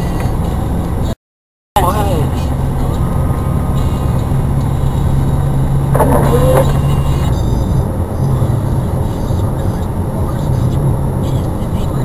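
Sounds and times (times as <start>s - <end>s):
car engine hum: 0.0s - 1.2s, 1.8s - 12.0s
road noise: 0.0s - 1.2s, 1.8s - 12.0s.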